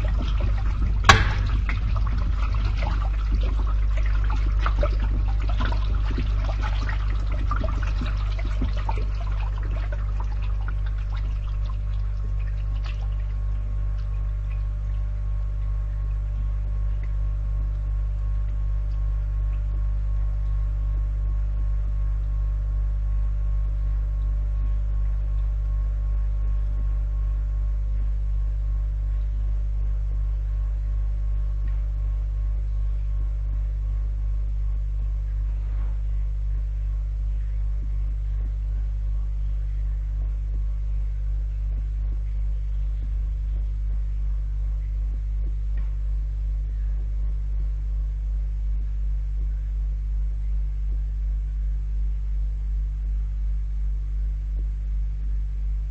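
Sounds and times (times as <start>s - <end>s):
electric water pump humming: 0.0s - 55.9s.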